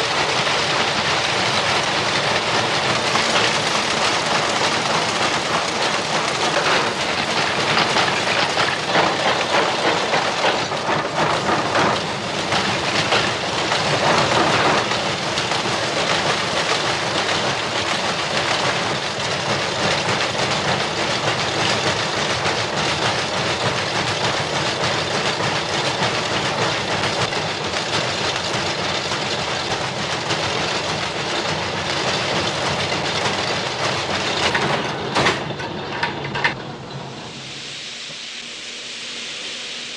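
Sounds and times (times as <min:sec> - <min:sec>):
textile looms running: 0:00.0 - 0:38.5.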